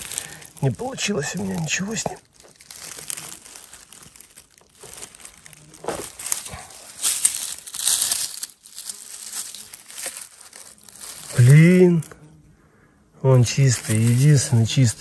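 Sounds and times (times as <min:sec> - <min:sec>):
rustling of forest litter and sand: 0:00.0 - 0:12.2, 0:13.3 - 0:15.0.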